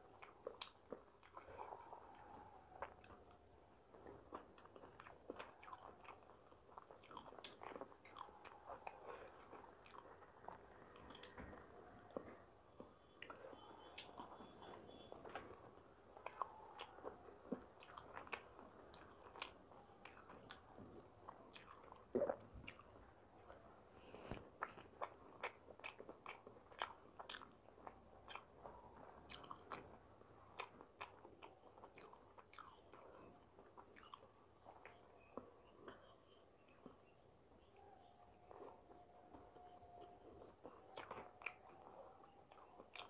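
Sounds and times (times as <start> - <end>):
person chewing with wet smacks: 0.0 - 43.0.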